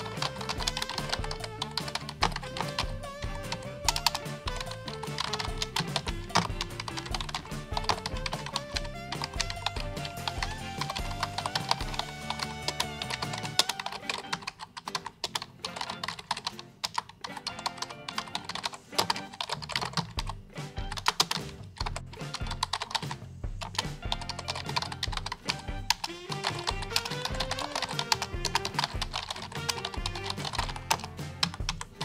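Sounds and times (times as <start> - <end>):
background music: 0.0 - 32.0
keyboard key clicks: 0.0 - 32.0.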